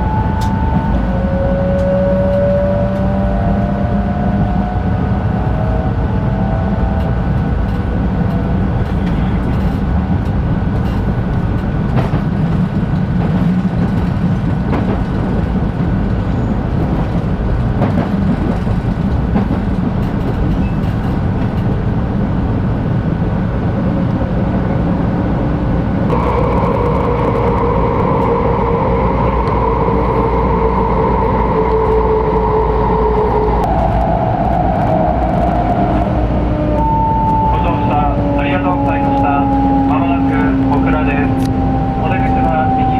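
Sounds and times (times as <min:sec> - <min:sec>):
multi-tone train whine: 0:00.0 - 0:42.9
train wheels and air rumble: 0:00.0 - 0:42.9.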